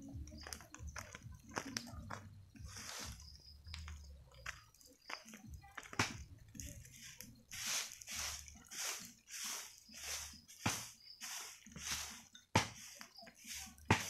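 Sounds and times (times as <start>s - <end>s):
leaves and bamboo fire crackling: 0.0s - 14.0s.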